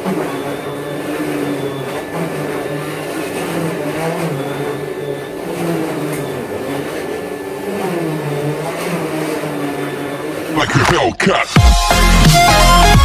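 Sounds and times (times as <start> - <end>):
vacuum cleaner running: 0.0 - 10.7.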